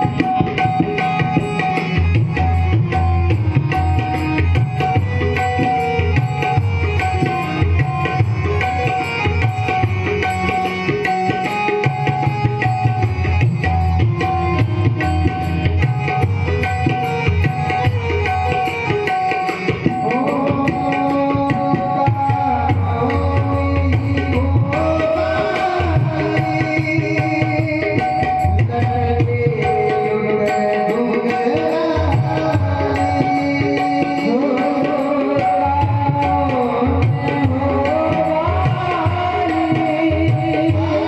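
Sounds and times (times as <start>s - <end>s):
sustained melodic accompaniment: 0.0s - 41.0s
tabla playing fast strokes: 0.0s - 41.0s.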